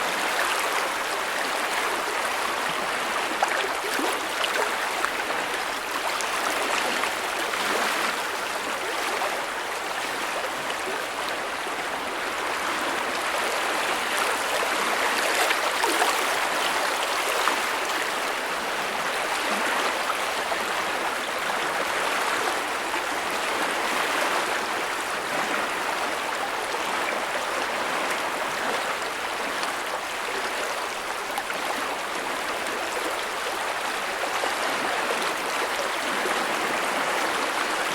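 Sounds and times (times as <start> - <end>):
creek water rushing: 0.0 - 37.9.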